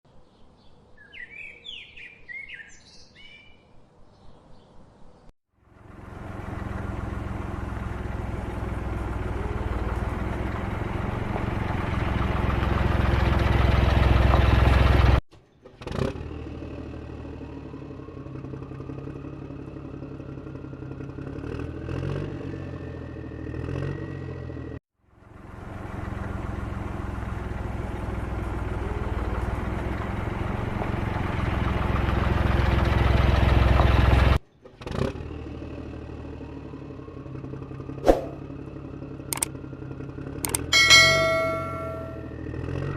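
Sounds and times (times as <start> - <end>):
vehicle engine running: 5.6 - 42.9.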